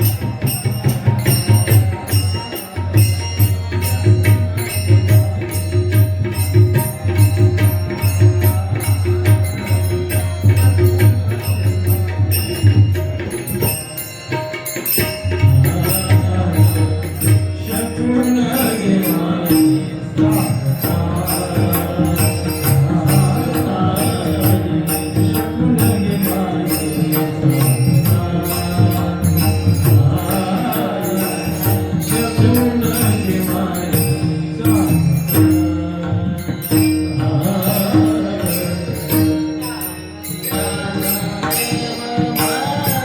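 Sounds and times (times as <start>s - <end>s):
chant-like devotional singing: 0.0s - 43.0s
hand cymbal strokes: 0.0s - 43.0s
sustained accompaniment: 0.0s - 43.0s.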